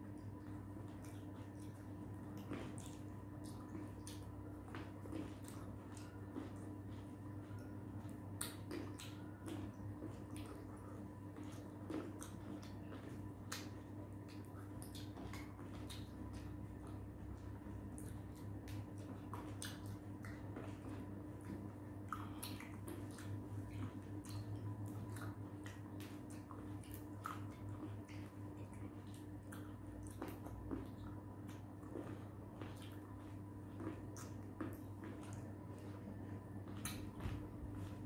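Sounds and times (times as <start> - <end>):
people chewing grapes: 0.0 - 38.0
steady low hum: 0.0 - 38.0.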